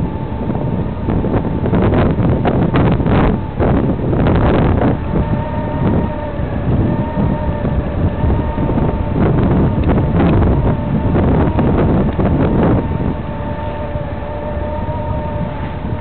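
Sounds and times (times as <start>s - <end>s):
motorcycle engine: 0.0s - 16.0s
steady whine: 0.0s - 16.0s
wind buffeting on microphone: 0.0s - 16.0s.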